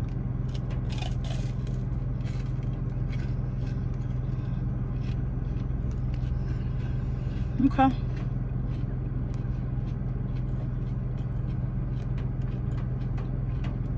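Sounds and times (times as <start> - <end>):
car engine hum: 0.0 - 13.9
crunchy chewing: 0.0 - 13.9.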